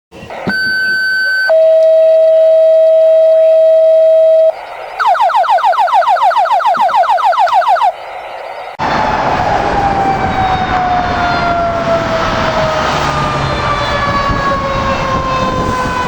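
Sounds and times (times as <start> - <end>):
fire engine siren: 1.5 - 16.0.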